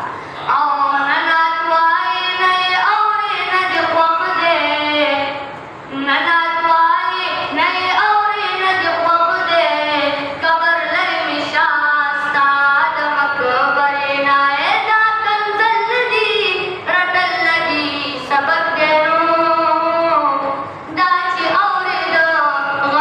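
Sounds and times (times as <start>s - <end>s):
boy singing into a microphone: 0.0s - 23.0s.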